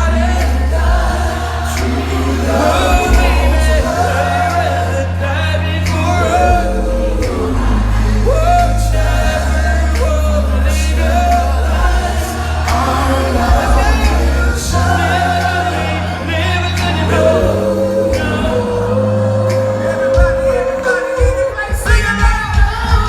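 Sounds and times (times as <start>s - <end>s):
amplified backing music with heavy bass: 0.0s - 23.0s
person singing: 0.0s - 23.0s.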